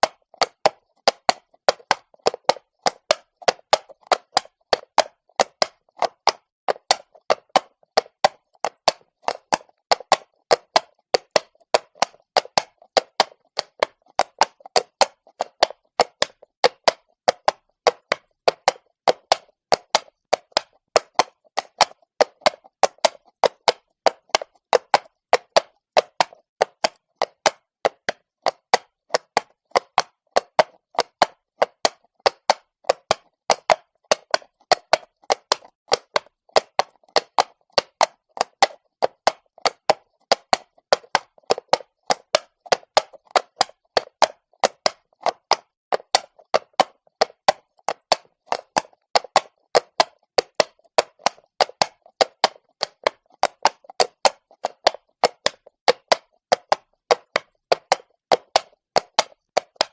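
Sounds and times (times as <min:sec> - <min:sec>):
hooves clopping on cobblestones: 0:00.0 - 0:59.9.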